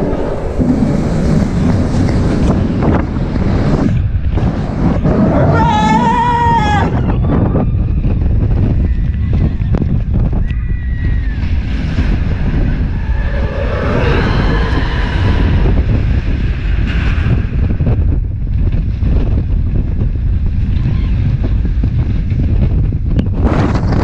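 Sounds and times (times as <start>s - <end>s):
roller coaster train rumbling: 0.0s - 24.0s
wind buffeting microphone: 0.0s - 24.0s.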